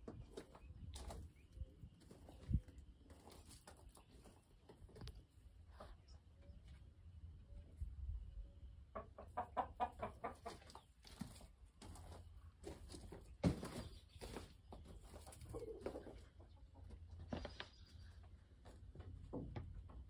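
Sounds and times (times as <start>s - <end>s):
chickens clucking: 0.0s - 6.8s, 8.4s - 18.3s.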